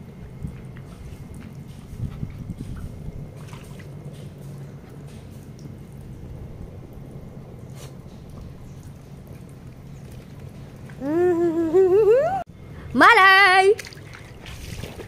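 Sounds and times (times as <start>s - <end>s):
sprinkler jets spraying: 0.0s - 12.4s
steady low hum: 0.0s - 15.0s.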